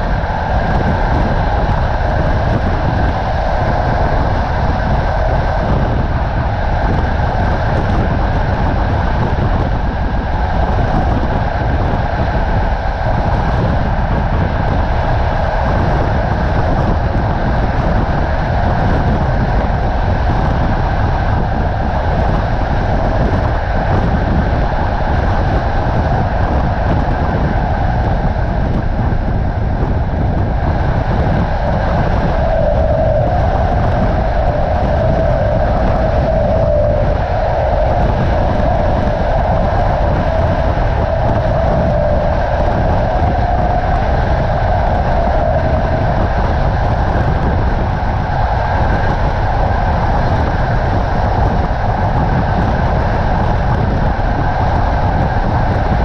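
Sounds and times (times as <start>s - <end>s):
rushing air: 0.0s - 56.0s.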